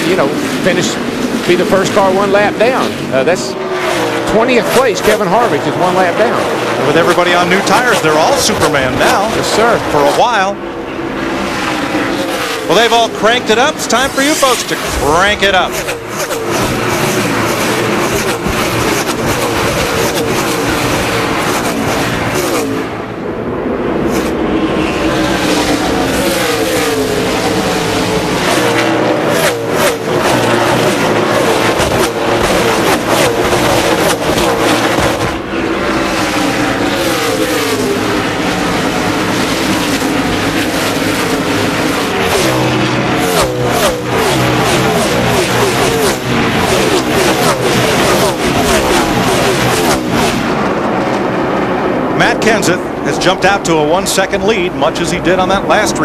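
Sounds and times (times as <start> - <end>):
race cars passing at full throttle: 0.0 - 56.0.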